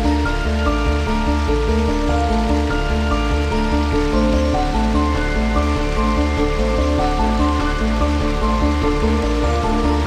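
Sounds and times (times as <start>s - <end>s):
melodic music with bass pulse: 0.0s - 10.0s.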